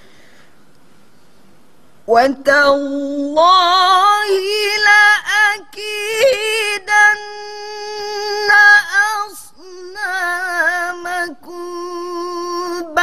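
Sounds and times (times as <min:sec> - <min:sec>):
woman reciting melodically: 0:02.1 - 0:13.0.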